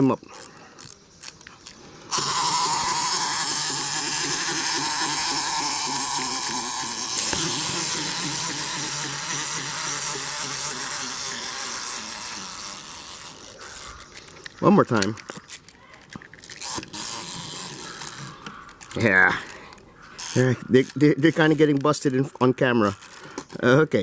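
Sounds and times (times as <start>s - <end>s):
wind-up toys whirring: 0.0s - 23.8s.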